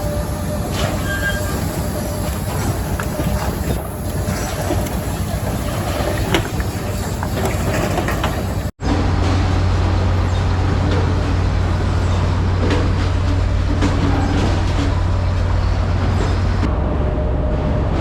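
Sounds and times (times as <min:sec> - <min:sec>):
machinery clattering and rumbling: 0:00.0 - 0:18.0.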